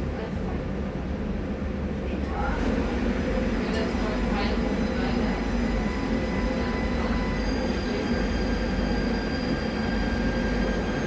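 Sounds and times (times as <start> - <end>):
rail car motor and wheel rumble: 0.0 - 11.0.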